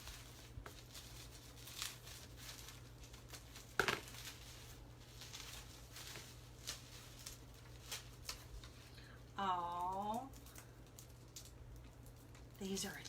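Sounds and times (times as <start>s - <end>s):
low steady hum: 0.0s - 13.0s
packaging rustling and crinkling: 0.0s - 13.0s.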